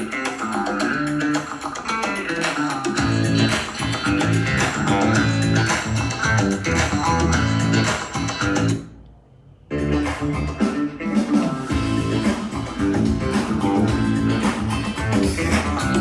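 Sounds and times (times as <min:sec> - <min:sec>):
guitar music with bass line: 0:00.0 - 0:08.9, 0:09.7 - 0:16.0.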